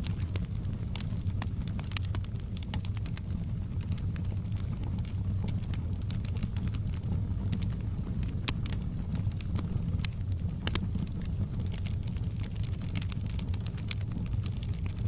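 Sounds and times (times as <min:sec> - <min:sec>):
fire pops and snaps: 0:00.0 - 0:15.0
fire rumbling: 0:00.0 - 0:15.0.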